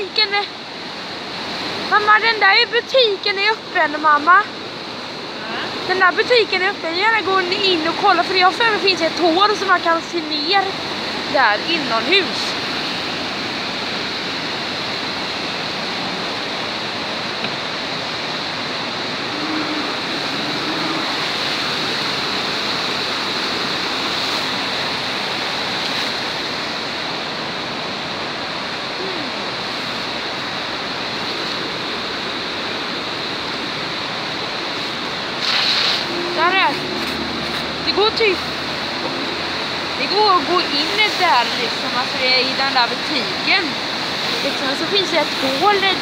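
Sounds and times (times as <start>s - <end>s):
water rushing over rocks: 0.0s - 46.0s.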